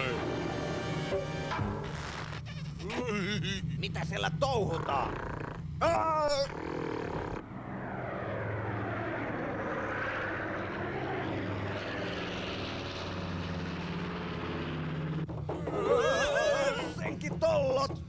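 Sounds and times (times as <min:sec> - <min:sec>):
cartoon propeller plane engine droning: 0:00.0 - 0:18.0.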